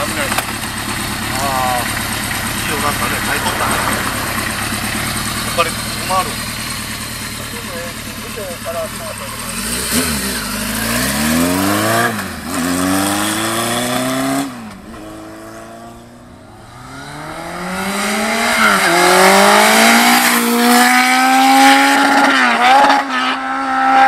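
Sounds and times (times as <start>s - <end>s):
motorcycle accelerating through gears: 0.0s - 24.0s.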